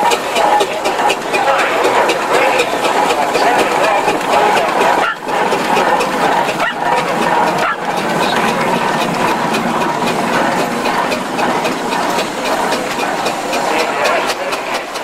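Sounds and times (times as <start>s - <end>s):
spectators' voices: 0.0s - 15.0s
steam engines mechanical din: 0.0s - 15.0s.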